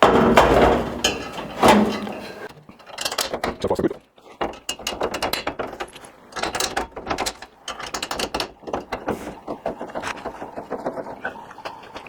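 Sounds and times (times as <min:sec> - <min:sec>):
metallic clicking and rattling: 0:00.0 - 0:03.8, 0:04.4 - 0:11.2.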